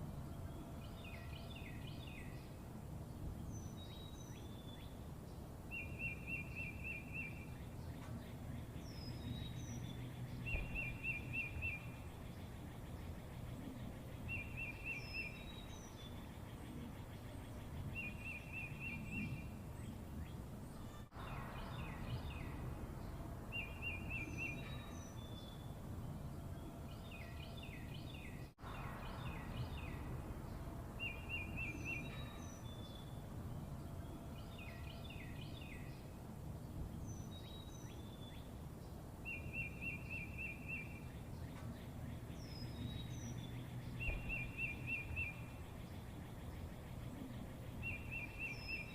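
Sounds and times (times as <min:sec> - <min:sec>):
birds singing: 0:00.0 - 0:48.9
low background noise: 0:00.0 - 0:48.9.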